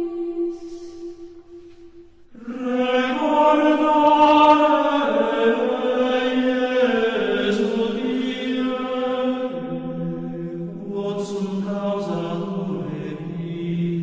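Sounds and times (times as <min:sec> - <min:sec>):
slow chant-like held voice notes: 0:00.0 - 0:14.0.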